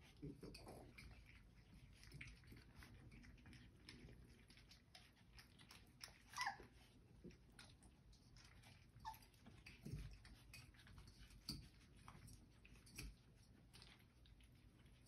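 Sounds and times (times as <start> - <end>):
puppies licking and chewing: 0.0 - 15.0.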